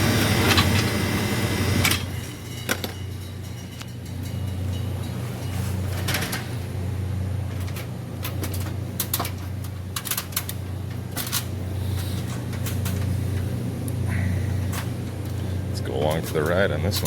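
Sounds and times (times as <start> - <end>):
compressor humming: 0.0 - 17.0.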